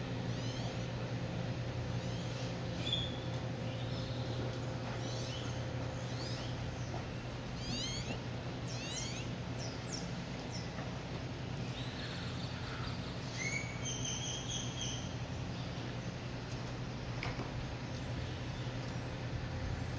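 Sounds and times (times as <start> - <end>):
steady low hum: 0.0 - 19.9
small birds chirping: 0.2 - 16.8, 17.7 - 19.9.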